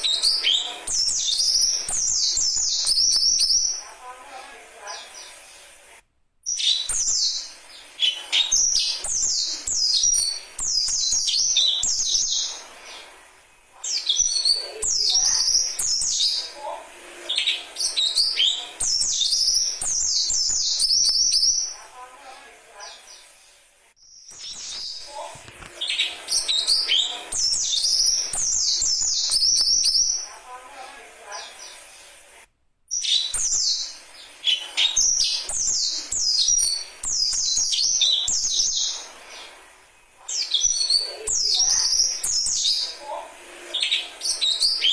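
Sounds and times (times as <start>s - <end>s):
songbird chirping and trilling: 0.0s - 5.7s, 6.4s - 32.1s, 32.9s - 44.9s.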